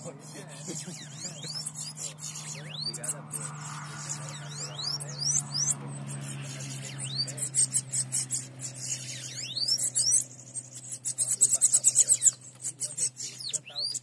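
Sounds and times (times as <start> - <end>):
birds chittering: 0.0 - 14.0
songbirds whistling: 0.0 - 14.0.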